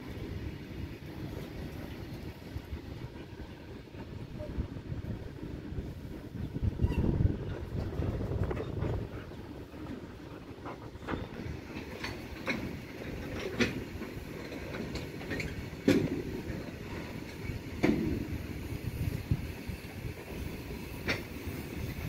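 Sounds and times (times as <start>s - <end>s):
rumble of wheels on rail: 0.0s - 22.0s.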